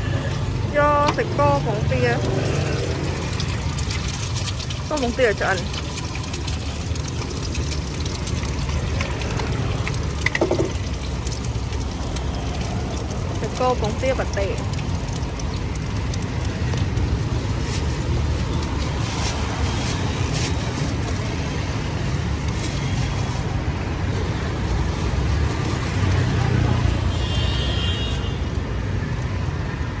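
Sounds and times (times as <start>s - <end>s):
egg frying in oil crackling: 0.0s - 30.0s
road traffic rumble: 0.0s - 30.0s.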